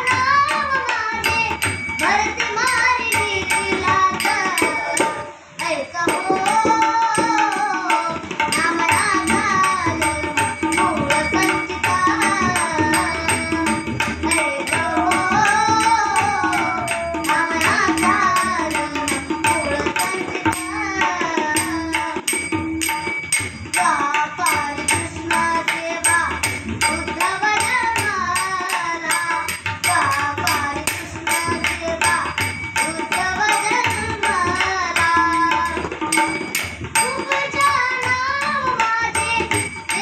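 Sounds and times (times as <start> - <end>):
person singing melodically: 0.0 - 22.7, 23.8 - 36.4, 37.0 - 40.0
fast hand-drum rhythm: 0.0 - 40.0.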